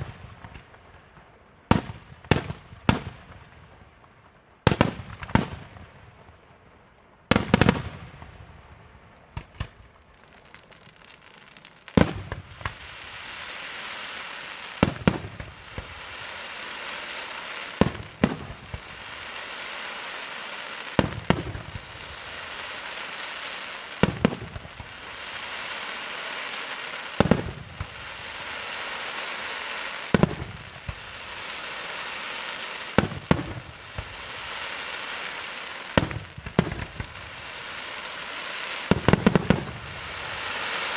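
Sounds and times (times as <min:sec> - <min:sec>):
steady hiss: 0:07.4 - 0:40.9.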